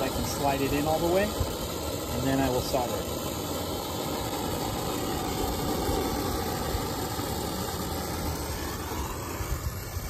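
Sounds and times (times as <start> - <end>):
torch flame running: 0.0 - 10.0.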